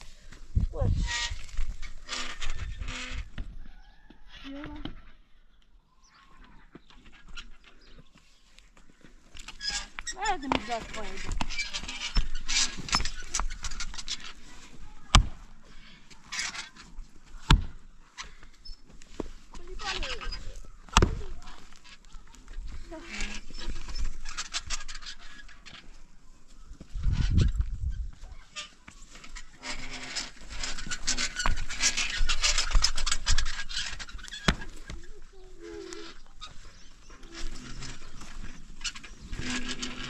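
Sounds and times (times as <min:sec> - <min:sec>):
scraping and rustling: 0:00.0 - 0:05.3, 0:06.2 - 0:40.0.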